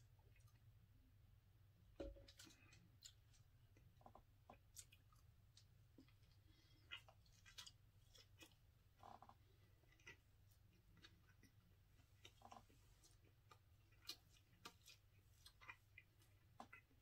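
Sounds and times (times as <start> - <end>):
person chewing: 2.3 - 17.0.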